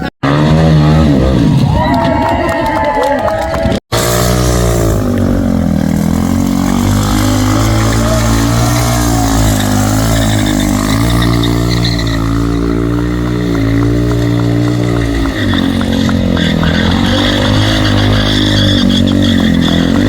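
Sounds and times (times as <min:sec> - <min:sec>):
motorcycle engine revving: 0:00.0 - 0:01.8, 0:03.9 - 0:20.0.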